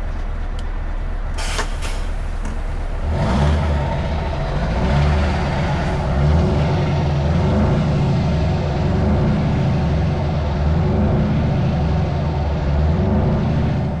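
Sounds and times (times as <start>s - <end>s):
truck engine running loudly: 0.0s - 14.0s.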